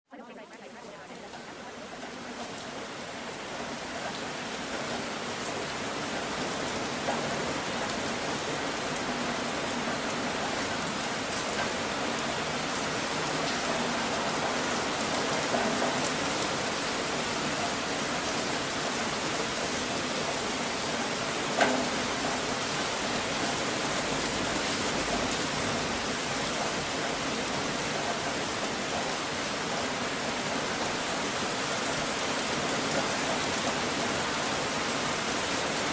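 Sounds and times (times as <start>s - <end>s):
steady rain hiss: 0.2s - 35.9s.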